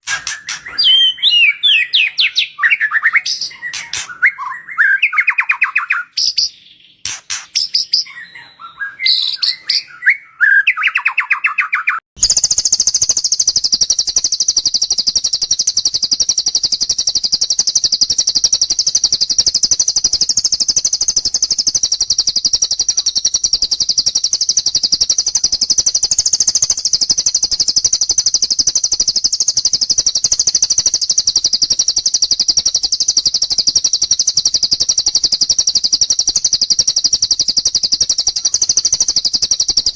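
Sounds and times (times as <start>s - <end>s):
bird chirping and whistling: 0.0s - 39.9s
rapid high-pitched bird trill: 0.0s - 39.9s.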